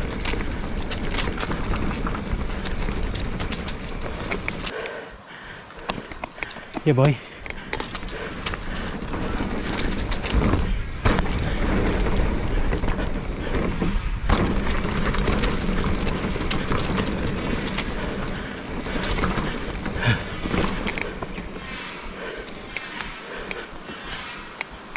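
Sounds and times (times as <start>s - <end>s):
bike rattling: 0.0s - 24.9s
bike tyres rumbling over dirt: 0.0s - 24.9s.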